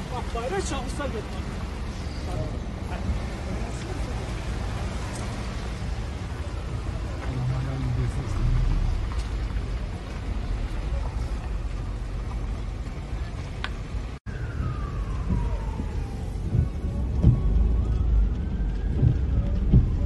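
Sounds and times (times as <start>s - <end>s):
low rumble of engines: 0.0s - 20.0s.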